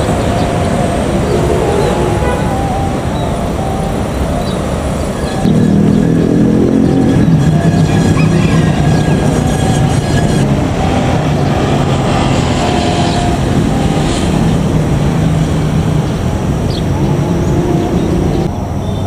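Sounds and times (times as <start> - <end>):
diesel train engine rumbling: 0.0 - 19.0.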